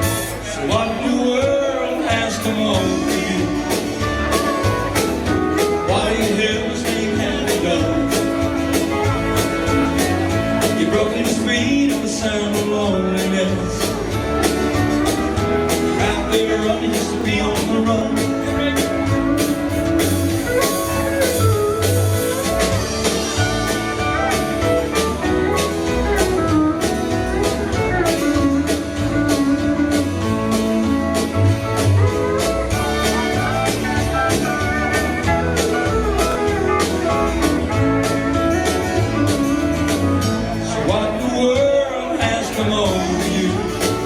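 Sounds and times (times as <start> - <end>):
guitar melody: 0.0 - 44.0
live country band playing: 0.0 - 44.0
steady drum beat: 0.0 - 44.0.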